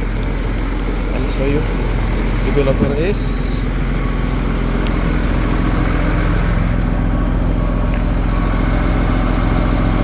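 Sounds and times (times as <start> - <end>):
truck engine humming: 0.0 - 10.0.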